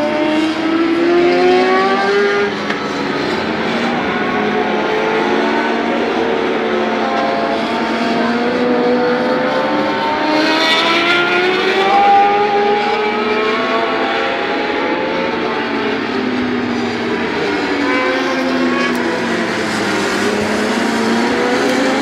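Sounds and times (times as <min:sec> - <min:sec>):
racing motorcycle engines revving: 0:00.0 - 0:22.0.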